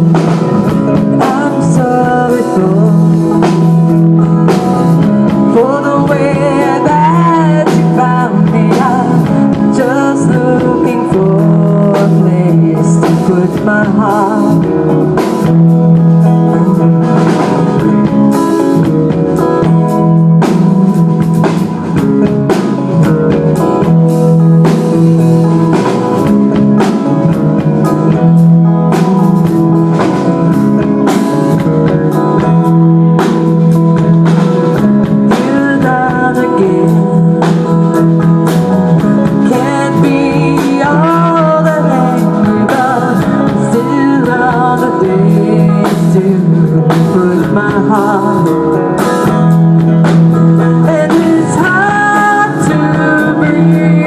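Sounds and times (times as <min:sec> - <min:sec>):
bending lead melody: 0:00.0 - 0:54.0
rock band instrumental: 0:00.0 - 0:54.0.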